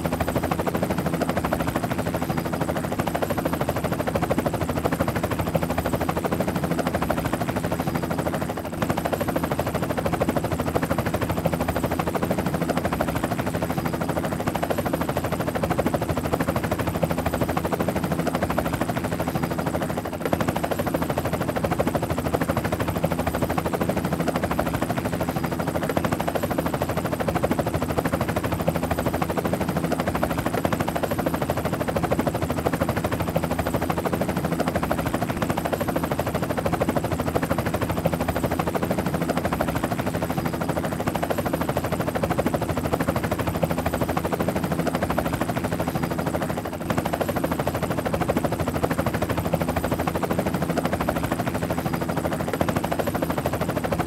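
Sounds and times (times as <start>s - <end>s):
helicopter rotor chop: 0.0s - 54.0s.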